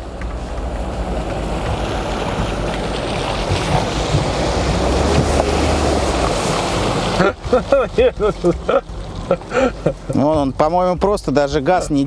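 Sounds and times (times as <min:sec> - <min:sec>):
car engine at low revs: 0:00.0 - 0:12.0.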